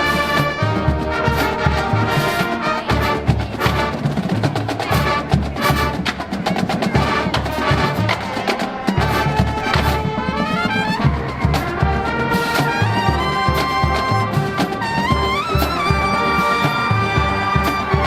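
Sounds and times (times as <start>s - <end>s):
brass section playing: 0.0s - 6.3s, 6.9s - 18.0s
marching drums and percussion: 0.0s - 18.0s.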